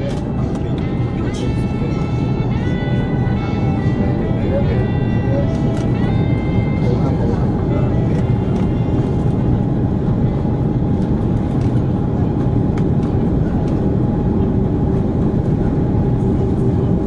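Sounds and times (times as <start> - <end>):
airplane cabin engine rumble: 0.0 - 17.0
steady hum tone: 0.0 - 17.0.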